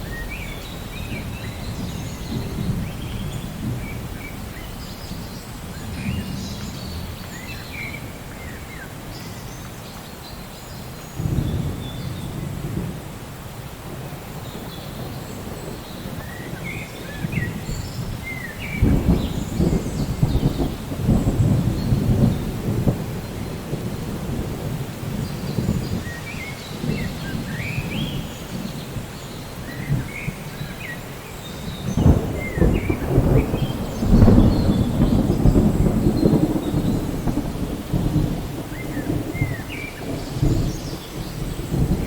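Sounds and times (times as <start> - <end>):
thunder rumbling: 0.0 - 9.4, 11.1 - 42.0
rain hissing: 0.0 - 42.0.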